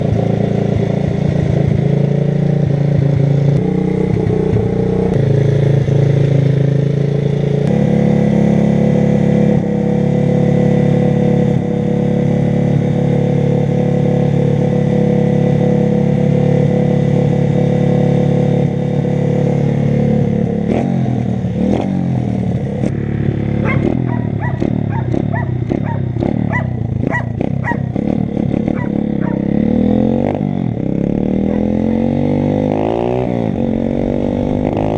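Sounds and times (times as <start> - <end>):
pit bike engine running: 0.0 - 34.9.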